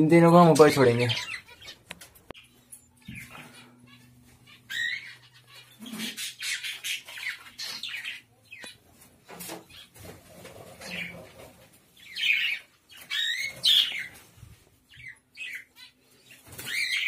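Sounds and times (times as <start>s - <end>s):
birds squawking and chirping: 0.1s - 17.0s.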